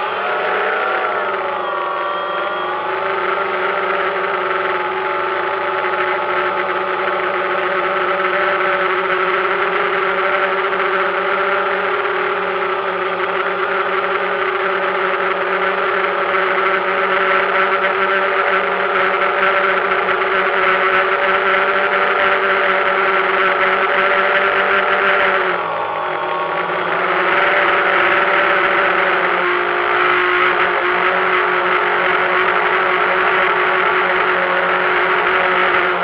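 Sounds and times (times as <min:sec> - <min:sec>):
drone propellers whining: 0:00.0 - 0:36.0.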